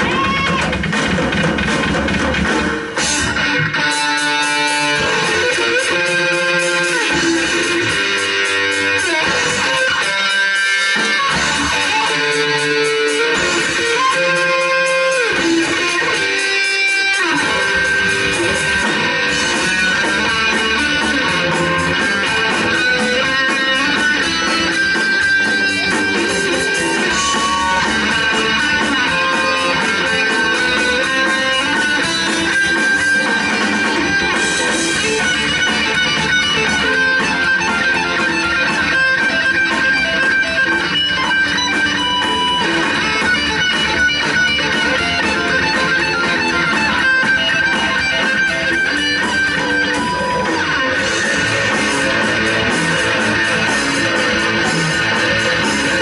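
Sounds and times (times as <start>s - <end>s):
live rock band: 0.0s - 56.0s
electric guitar sustained notes: 3.0s - 56.0s.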